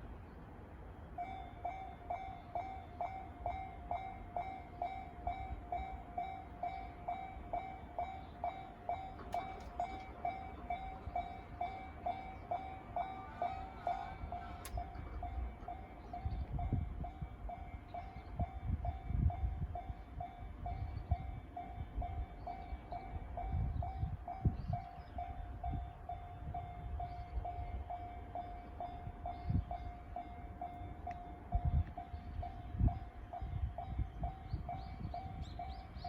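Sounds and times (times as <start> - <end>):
level-crossing warning bell: 1.1 - 36.0.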